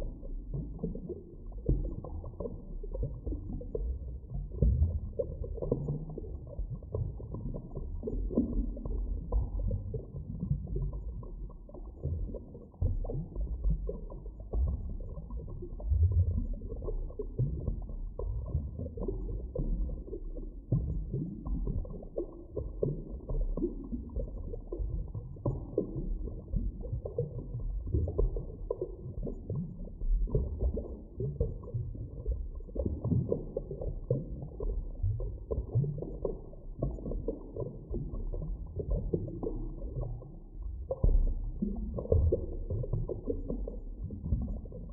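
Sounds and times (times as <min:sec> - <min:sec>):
muffled underwater rumble: 0:00.0 - 0:44.9.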